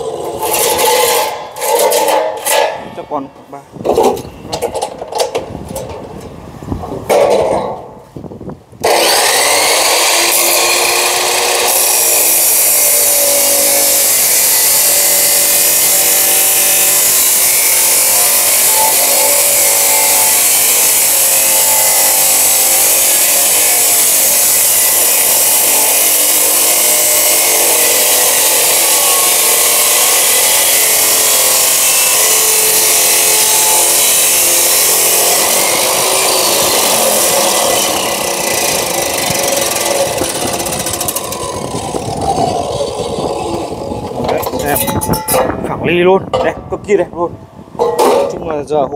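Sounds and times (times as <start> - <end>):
abrasive saw grinding steel: 0.0 - 2.9, 8.8 - 45.7.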